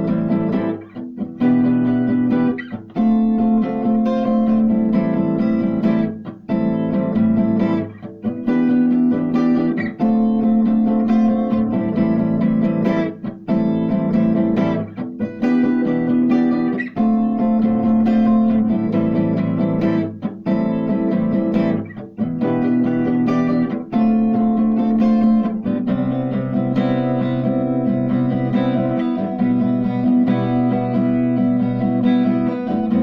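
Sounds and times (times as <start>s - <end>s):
guitar chords: 0.0s - 33.0s.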